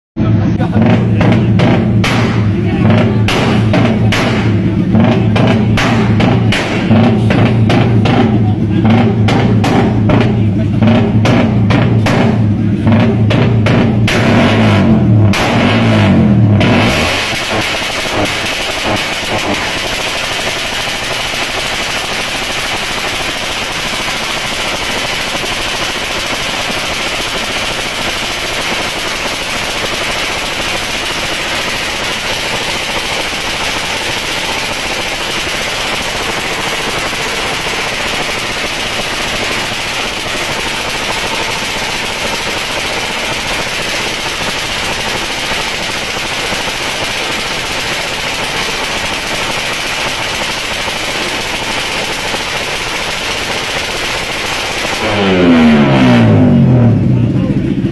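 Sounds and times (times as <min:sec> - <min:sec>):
motorcycle racing exhaust: 0:00.2 - 0:57.9.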